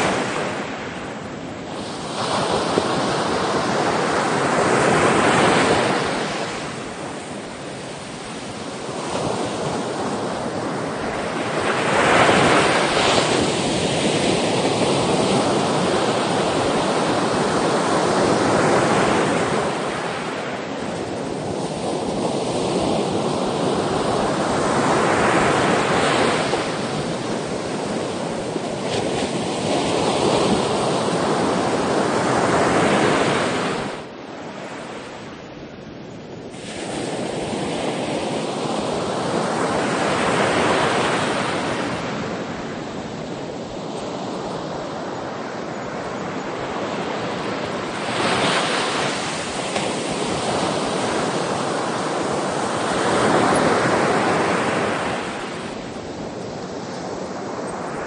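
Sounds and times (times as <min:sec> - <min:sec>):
ocean waves breaking: 0:00.0 - 0:35.3, 0:36.5 - 0:58.0.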